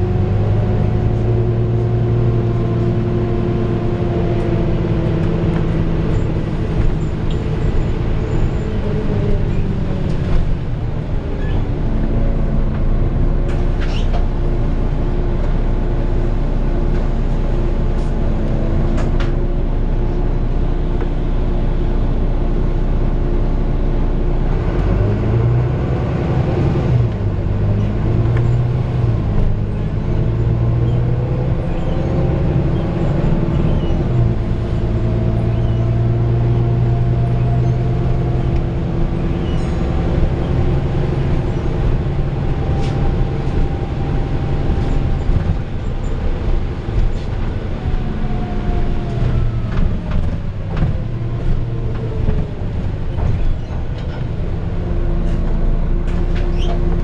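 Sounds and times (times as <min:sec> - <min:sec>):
bus diesel engine running: 0:00.0 - 0:57.0
engine whine: 0:00.0 - 0:57.0.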